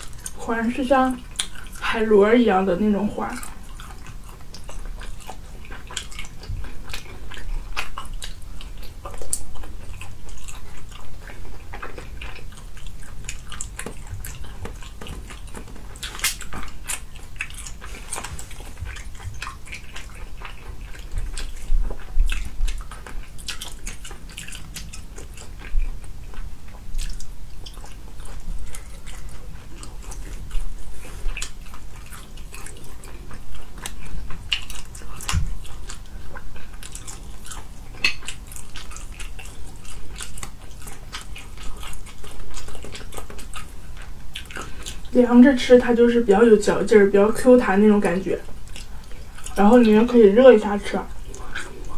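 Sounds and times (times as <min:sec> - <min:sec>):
chewing and biting food: 0:00.0 - 0:51.9.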